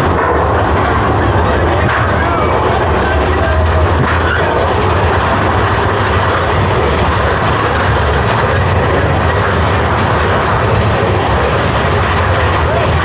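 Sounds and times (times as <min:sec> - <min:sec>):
roller coaster rumbling on track: 0:00.0 - 0:13.0.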